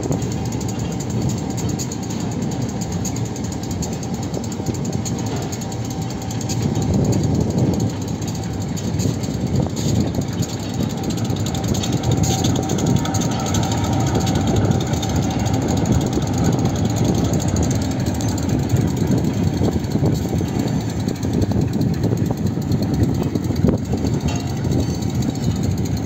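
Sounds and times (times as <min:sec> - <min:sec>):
train rumbling along track: 0:00.0 - 0:26.0.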